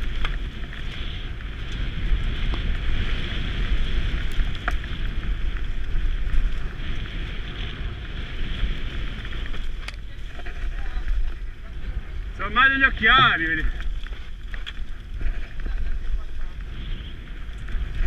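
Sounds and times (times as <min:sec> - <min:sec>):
bike clicks and rattles: 0:00.0 - 0:18.0
bike tyres rumbling on dirt trail: 0:00.0 - 0:18.0
wind rushing over microphone: 0:00.0 - 0:18.0.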